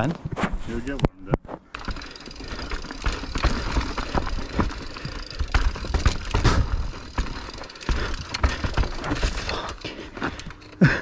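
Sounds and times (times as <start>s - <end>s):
bike knocks and clatter: 1.6s - 11.0s.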